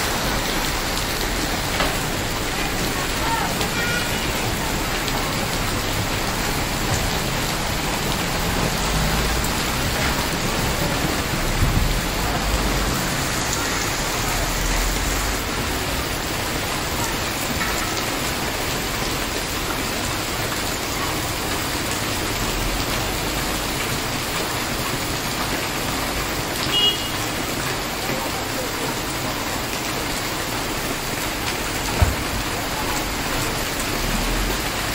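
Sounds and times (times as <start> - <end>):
heavy rain on street: 0.0 - 34.9.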